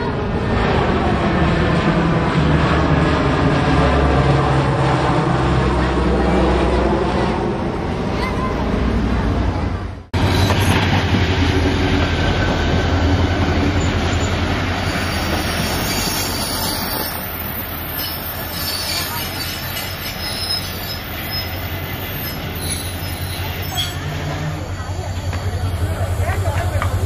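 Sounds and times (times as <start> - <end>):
passenger train rumbling past: 0.0 - 27.0.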